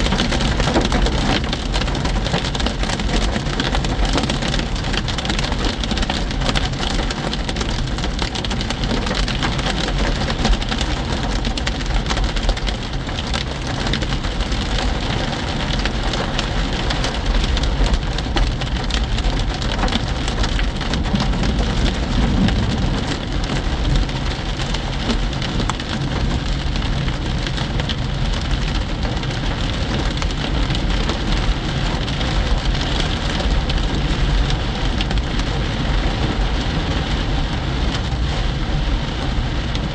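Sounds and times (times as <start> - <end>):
hail and rain on car roof: 0.0 - 39.9
low road noise rumble: 0.0 - 39.9.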